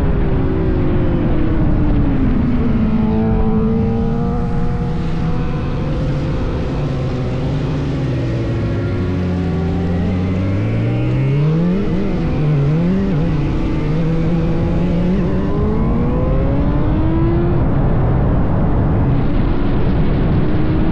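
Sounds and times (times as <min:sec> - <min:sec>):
rushing wind and road noise: 0:00.0 - 0:20.9
motorcycle engine revving: 0:01.4 - 0:18.7.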